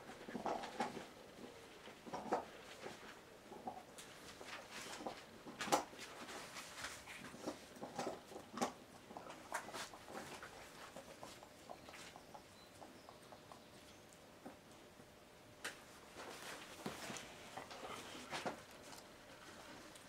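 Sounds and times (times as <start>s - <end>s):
soft rustles and scratchy clicks: 0.1s - 12.5s, 15.6s - 20.0s.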